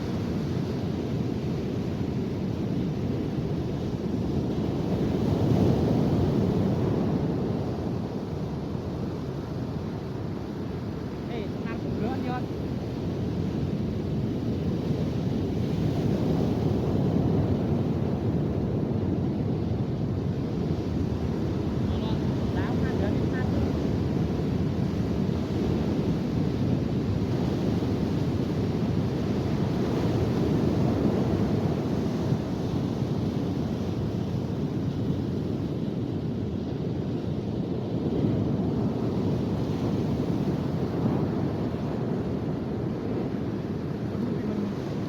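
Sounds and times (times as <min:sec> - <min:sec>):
ocean surf on a beach: 0:00.0 - 0:45.0
wind rumbling on microphone: 0:00.0 - 0:45.0.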